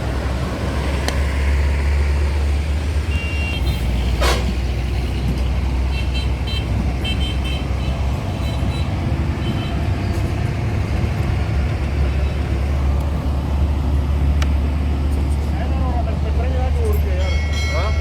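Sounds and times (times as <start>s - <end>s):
traffic: 0.0s - 18.0s
vehicle engine droning: 0.0s - 18.0s.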